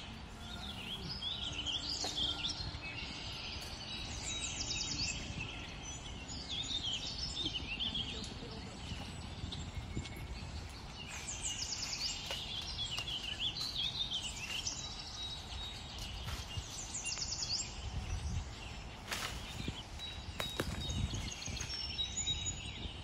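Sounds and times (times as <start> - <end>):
small birds chirping and trilling: 0.0 - 23.0.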